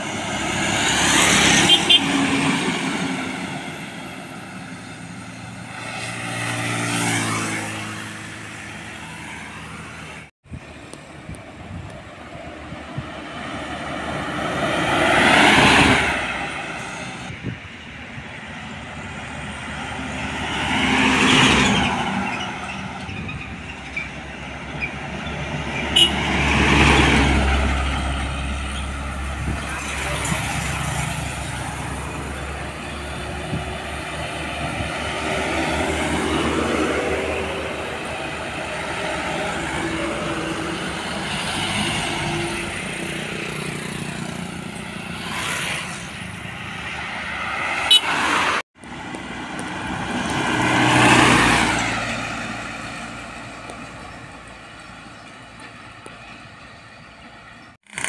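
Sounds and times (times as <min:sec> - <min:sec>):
trucks and traffic passing: 0:00.0 - 0:58.0.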